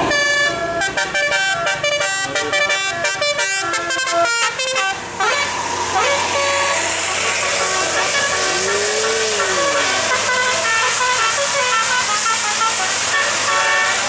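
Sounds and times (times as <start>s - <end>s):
multi-tone musical horn tune: 0.0s - 14.0s.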